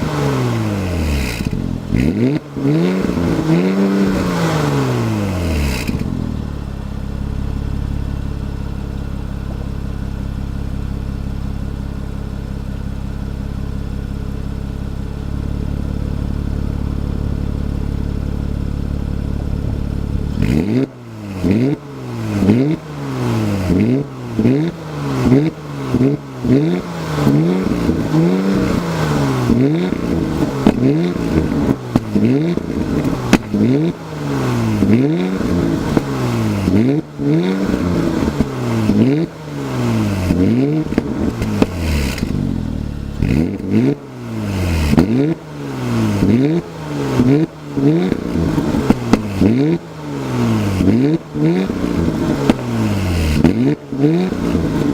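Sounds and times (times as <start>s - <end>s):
car engine idling: 0.0s - 54.9s
engine revving with exhaust crackles: 0.0s - 54.9s.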